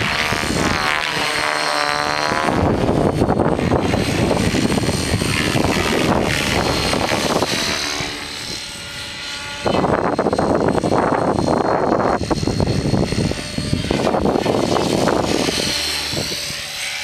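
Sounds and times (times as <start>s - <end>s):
rc helicopter rotor and motor: 0.0s - 17.0s
wind buffeting on microphone: 0.0s - 17.0s.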